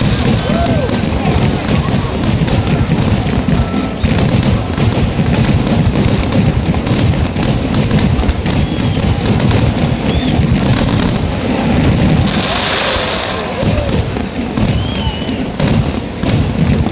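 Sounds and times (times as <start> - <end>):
fireworks booming and crackling: 0.0 - 16.9.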